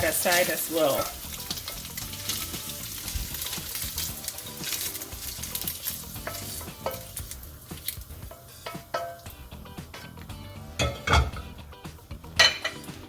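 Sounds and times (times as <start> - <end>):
ham sizzling in hot oil: 0.0 - 13.0
utensil scraping a pan: 0.3 - 10.2, 10.8 - 11.6.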